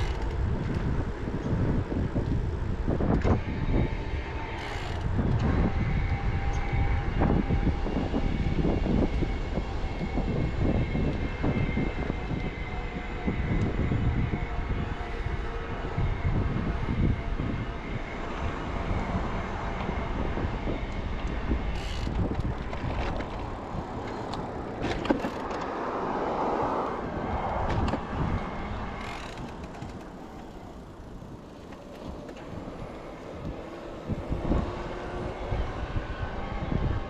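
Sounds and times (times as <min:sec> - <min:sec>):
tyres rolling on pavement: 0:00.0 - 0:37.0
wind on microphone: 0:00.0 - 0:37.0.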